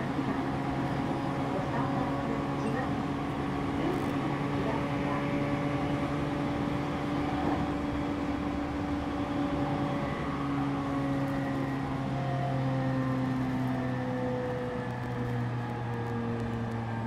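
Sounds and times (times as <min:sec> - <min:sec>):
train electrical hum: 0:00.0 - 0:16.0.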